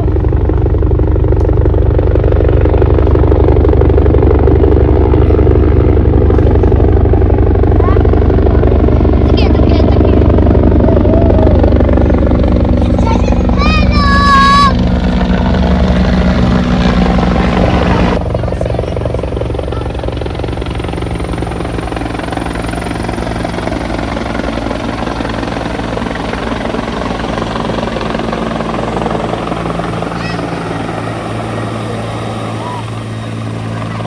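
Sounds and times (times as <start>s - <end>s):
helicopter rotor and turbine: 0.0s - 34.0s.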